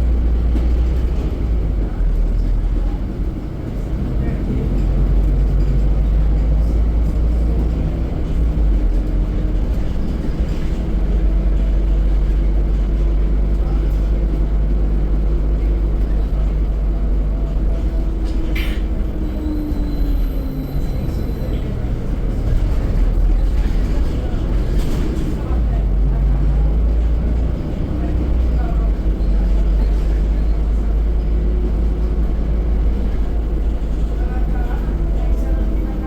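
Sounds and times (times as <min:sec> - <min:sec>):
bus diesel engine droning: 0:00.0 - 0:36.0
road rumble: 0:00.0 - 0:36.0.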